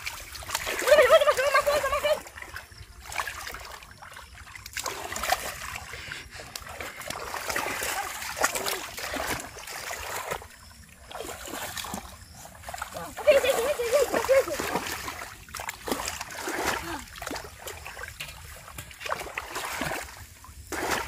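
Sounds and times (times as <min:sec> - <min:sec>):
hands splashing in water: 0:00.0 - 0:21.0.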